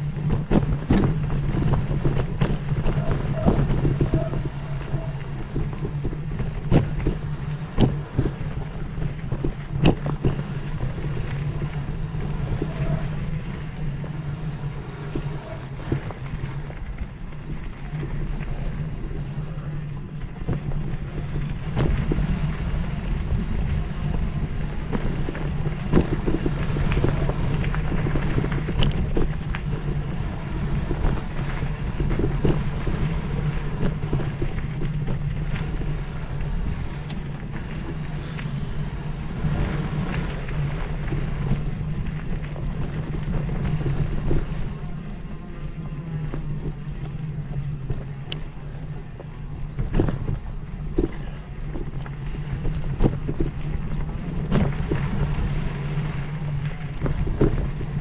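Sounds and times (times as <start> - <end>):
vehicle engine running: 0.0 - 58.0
wind noise: 0.0 - 58.0.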